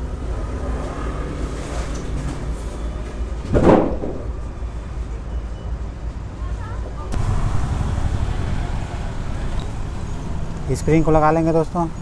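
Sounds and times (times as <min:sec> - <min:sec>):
vehicle traffic rumble: 0:00.0 - 0:03.4, 0:04.3 - 0:12.0.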